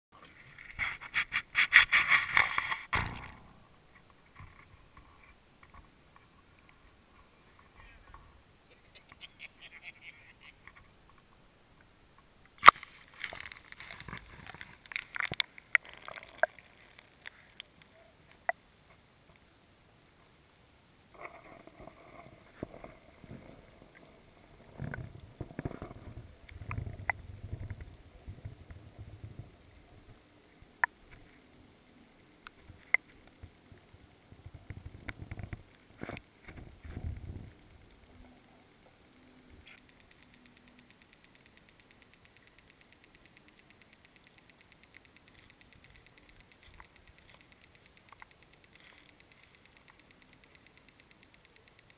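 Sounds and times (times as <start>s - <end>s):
faint steady whine: 0.2s - 51.9s.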